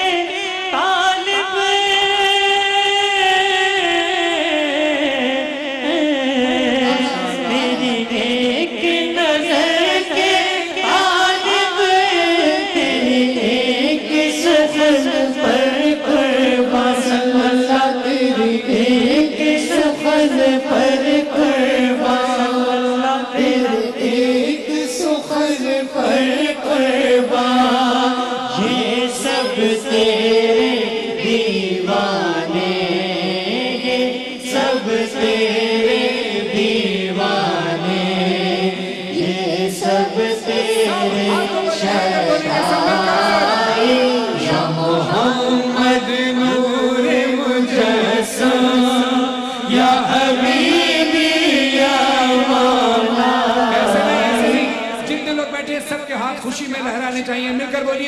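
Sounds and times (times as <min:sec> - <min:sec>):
voices singing devotional song: 0:00.0 - 0:58.0
group chanting: 0:03.7 - 0:55.1.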